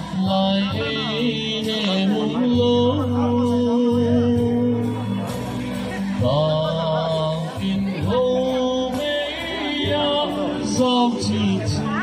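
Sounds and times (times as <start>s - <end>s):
backing music: 0.0s - 12.0s
man singing into a microphone: 0.0s - 12.0s.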